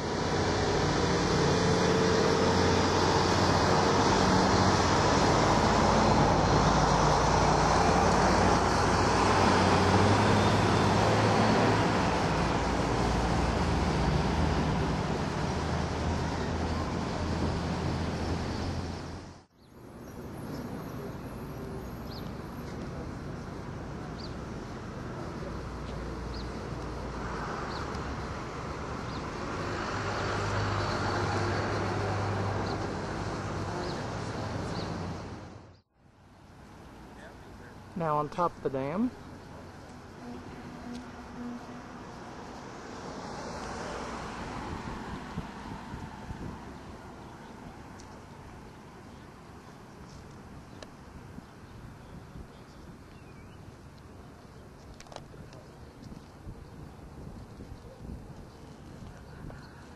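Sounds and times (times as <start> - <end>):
road traffic rushing: 0.0 - 59.9.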